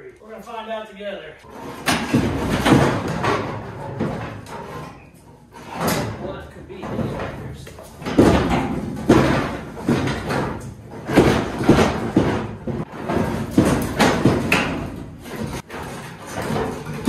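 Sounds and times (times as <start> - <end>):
steel truck panel banging: 1.5 - 17.0.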